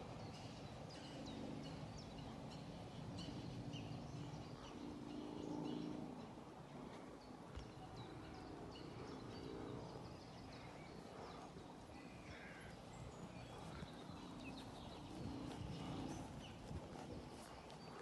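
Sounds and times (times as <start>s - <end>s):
horse hooves trotting on sand: 0.0s - 18.0s.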